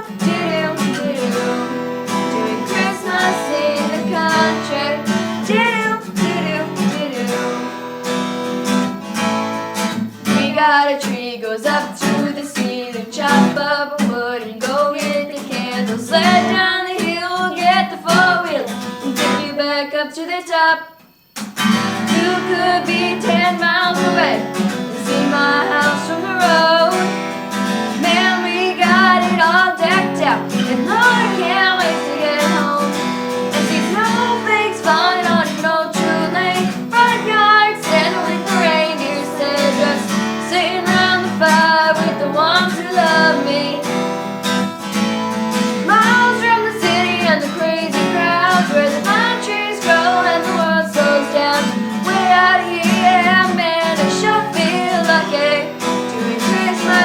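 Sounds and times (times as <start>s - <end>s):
girls singing: 0.0s - 8.2s, 10.2s - 21.0s, 21.8s - 44.6s, 45.6s - 57.0s
acoustic guitar: 0.0s - 57.0s.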